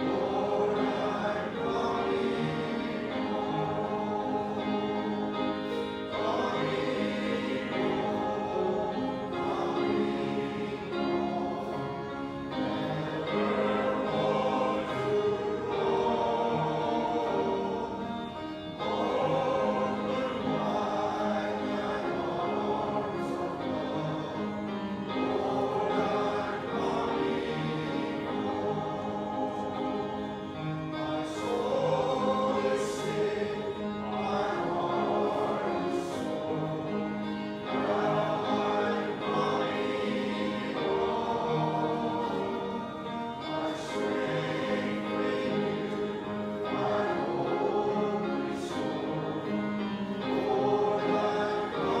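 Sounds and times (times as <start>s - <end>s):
congregation singing a hymn: 0.0s - 52.0s
piano chords: 0.0s - 52.0s.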